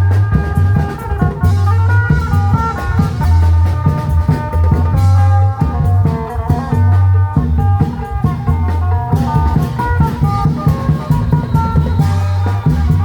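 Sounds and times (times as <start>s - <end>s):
drums beating steady rhythm: 0.0s - 13.0s.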